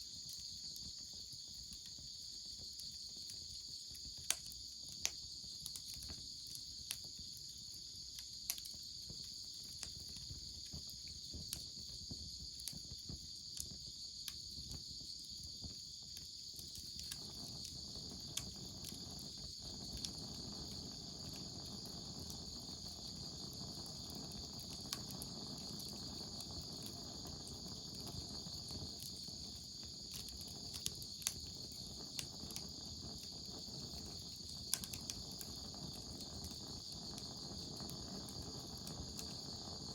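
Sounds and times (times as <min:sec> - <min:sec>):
insect chorus: 0:00.0 - 0:39.9
wood fire crackling and popping: 0:00.1 - 0:39.9.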